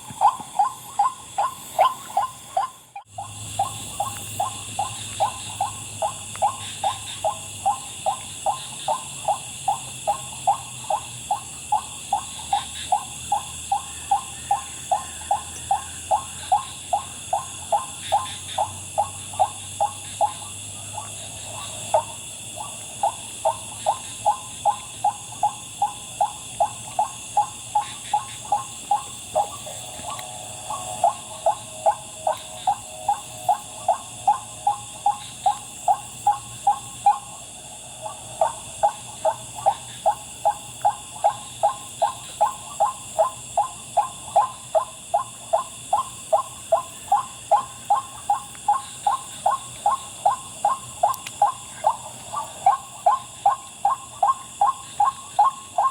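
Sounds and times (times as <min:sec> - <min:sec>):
insects whining: 0:00.0 - 0:55.9.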